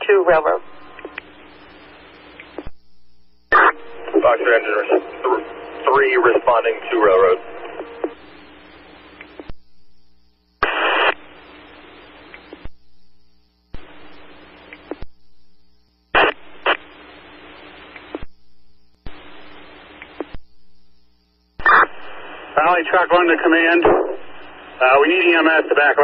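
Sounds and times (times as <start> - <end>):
radio transmission clicks: 0.0 - 9.7, 10.6 - 12.8, 13.7 - 15.2, 16.1 - 18.4, 19.0 - 20.5, 21.6 - 26.0
radio static hiss: 0.0 - 26.0.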